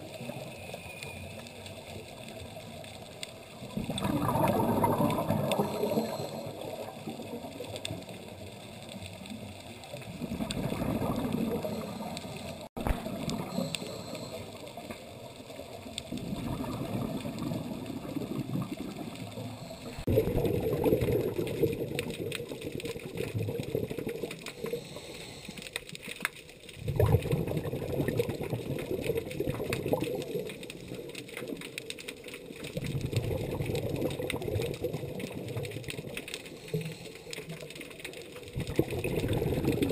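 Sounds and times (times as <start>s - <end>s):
muffled underwater noise: 0.0s - 39.9s
scuba exhaust bubbles gurgling: 3.5s - 8.8s, 9.7s - 25.8s, 26.6s - 39.9s.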